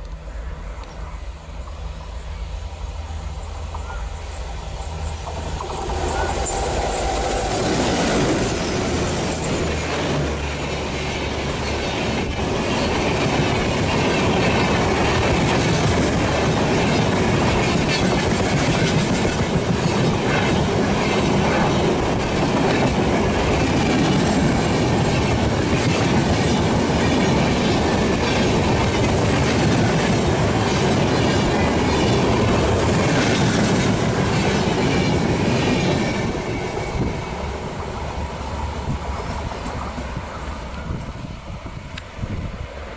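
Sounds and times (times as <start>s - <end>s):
locomotive engine: 0.0s - 42.9s
train wheels clattering on rails: 2.6s - 42.2s.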